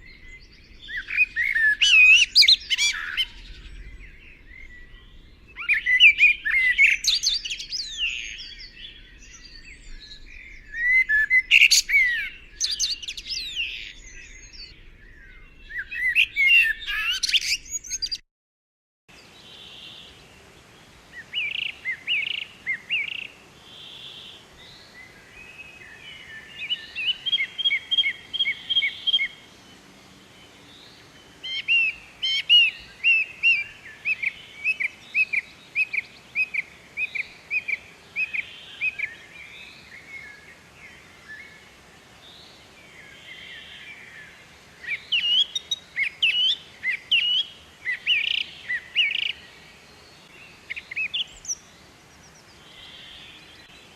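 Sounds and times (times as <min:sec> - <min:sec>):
birds chirping: 0:00.0 - 0:18.2, 0:19.1 - 0:53.9
faint steady hiss: 0:00.0 - 0:18.2, 0:19.1 - 0:53.9.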